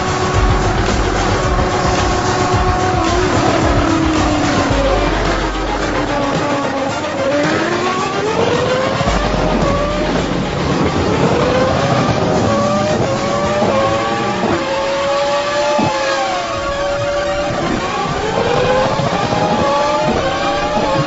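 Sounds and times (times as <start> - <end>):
racing engines accelerating: 0.0 - 21.0.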